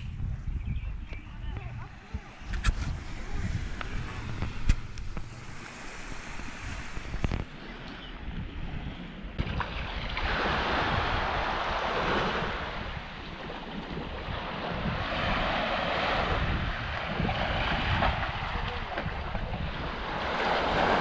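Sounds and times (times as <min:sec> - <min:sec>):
wind buffeting microphone: 0:00.0 - 0:21.0
small waves washing on beach: 0:02.0 - 0:21.0.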